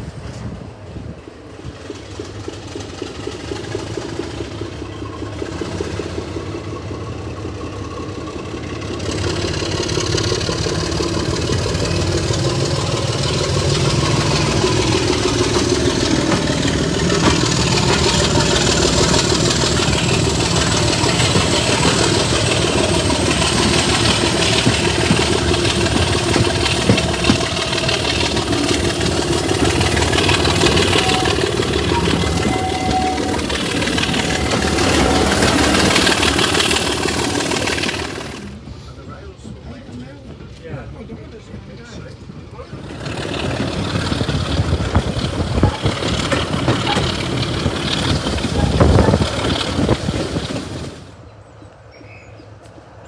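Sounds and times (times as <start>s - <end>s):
diesel locomotive engine: 0.0s - 53.0s.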